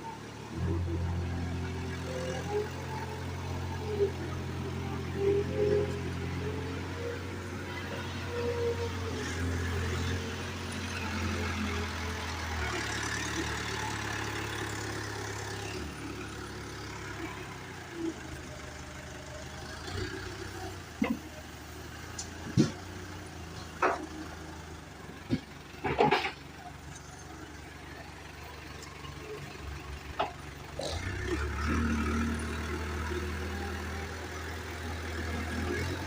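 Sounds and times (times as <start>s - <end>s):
diesel engine rumbling: 0.0s - 36.0s.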